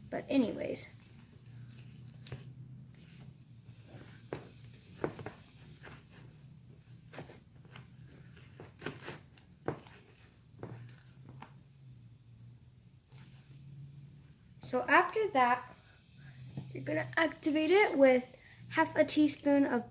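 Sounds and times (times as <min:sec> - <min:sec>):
low electrical hum: 0:00.0 - 0:19.9
slime stirred in a bowl: 0:00.2 - 0:12.0, 0:12.8 - 0:18.2.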